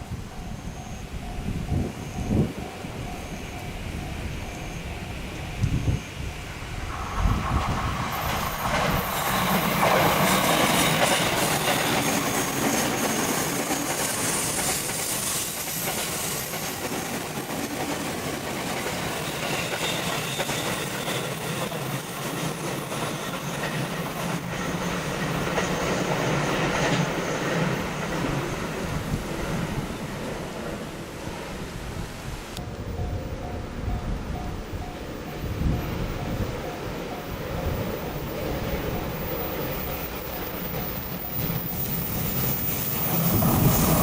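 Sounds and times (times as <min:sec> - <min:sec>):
electric train rail noise: 0:00.0 - 0:44.0.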